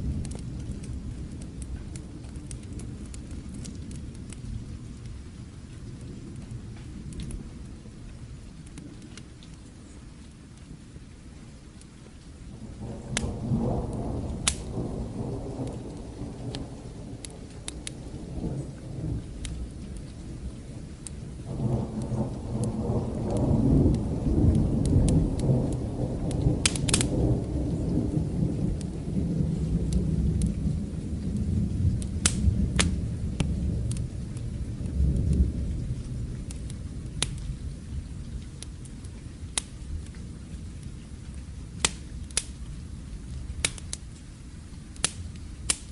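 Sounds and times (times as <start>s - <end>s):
thunder rumbling: 0.0s - 9.4s, 12.4s - 45.9s
fireplace fire crackling: 0.0s - 45.9s
steady rain: 0.0s - 45.9s.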